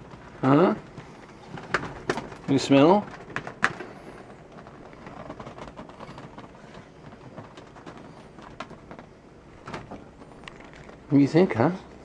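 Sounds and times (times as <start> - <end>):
faint rustling and clicks: 0.0 - 12.0.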